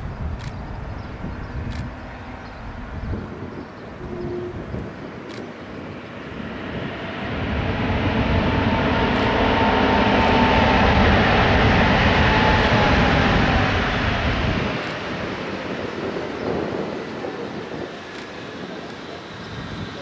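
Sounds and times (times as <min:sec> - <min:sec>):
engine whine: 0:00.0 - 0:20.0
jet engines roaring: 0:00.0 - 0:20.0.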